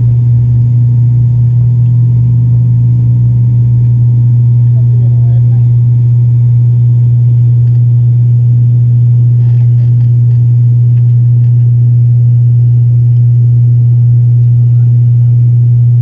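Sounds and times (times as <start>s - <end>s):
aircraft engine drone in cabin: 0.0s - 16.0s.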